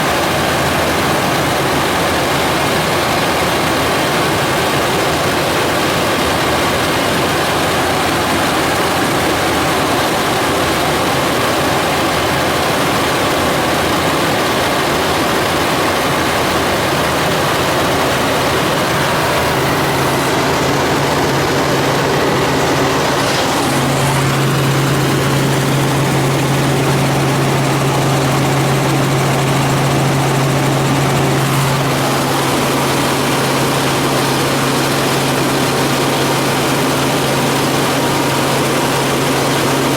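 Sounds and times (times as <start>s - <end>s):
helicopter engine and rotor roar: 0.0s - 39.9s.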